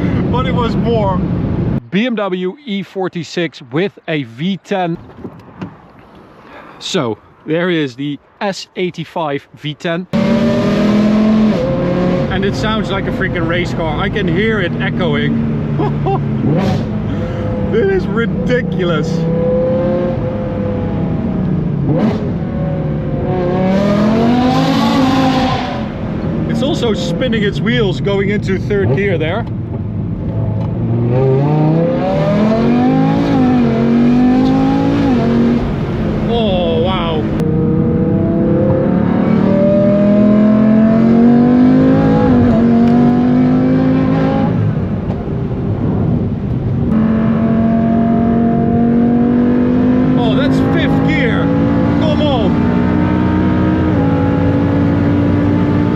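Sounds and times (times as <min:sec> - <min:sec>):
engine accelerating hard: 0:10.1 - 0:55.9.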